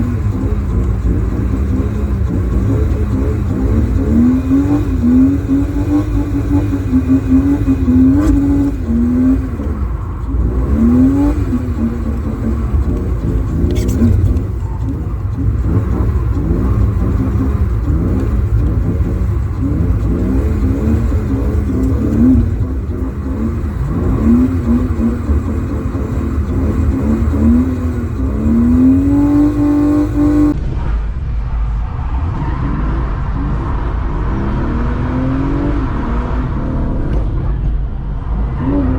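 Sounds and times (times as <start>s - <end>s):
car engine revving: 0.0s - 38.9s
road and wind rumble: 0.0s - 38.9s.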